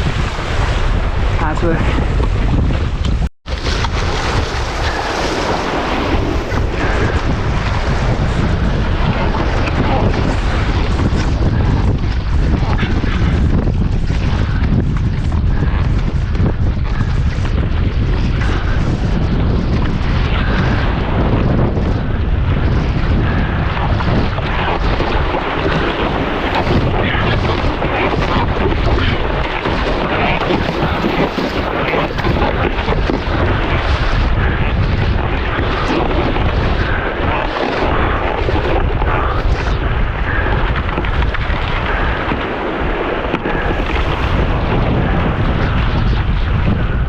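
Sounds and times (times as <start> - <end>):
sea water rushing and splashing: 0.0 - 14.7, 16.9 - 47.0
wind buffeting microphone: 0.0 - 47.0.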